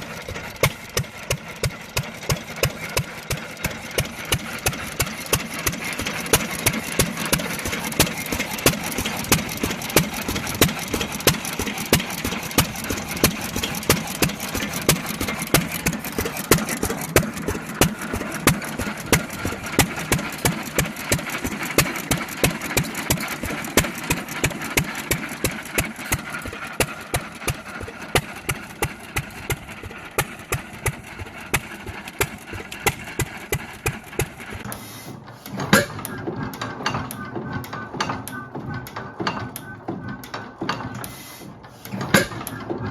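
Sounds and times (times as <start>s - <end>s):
old engine idling with exhaust beat: 0.0s - 42.9s.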